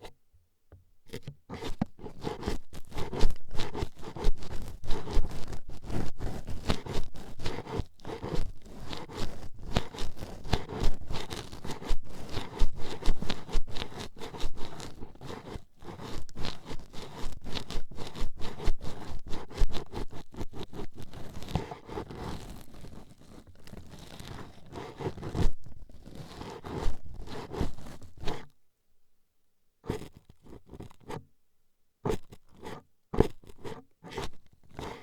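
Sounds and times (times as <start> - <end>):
toothpicks scratching a microphone: 1.1 - 28.5, 29.8 - 31.3, 32.0 - 35.0.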